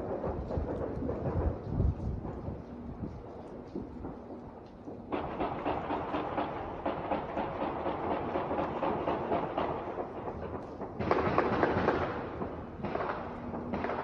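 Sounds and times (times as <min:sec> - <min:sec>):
distant gunfire and firecrackers: 0:00.0 - 0:14.0.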